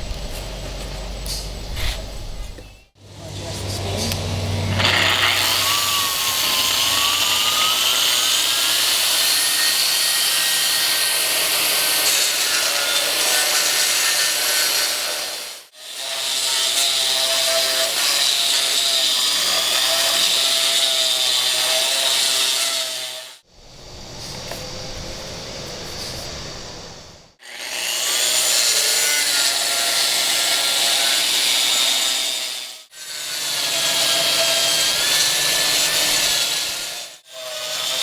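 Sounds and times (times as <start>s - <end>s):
concrete grinder grinding: 0.1s - 23.0s, 27.4s - 38.0s.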